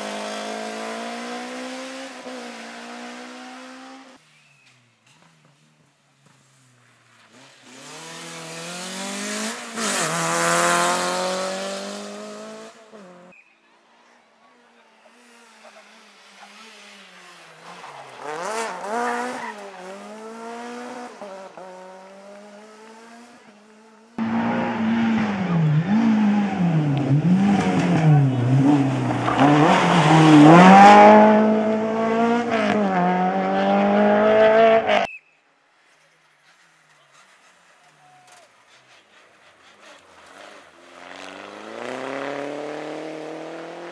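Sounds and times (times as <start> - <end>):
rally car engines at full throttle: 0.0 - 5.5, 6.2 - 35.1, 36.2 - 43.9.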